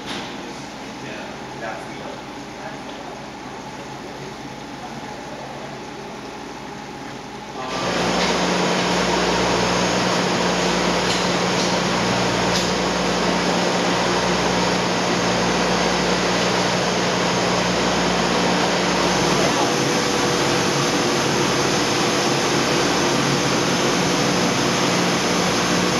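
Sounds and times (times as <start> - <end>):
centrifuge mechanical hum: 0.0 - 25.9.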